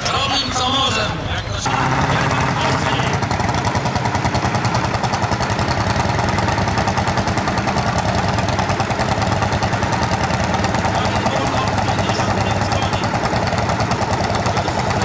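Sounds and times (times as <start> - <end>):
tractor engines running: 0.0 - 15.0.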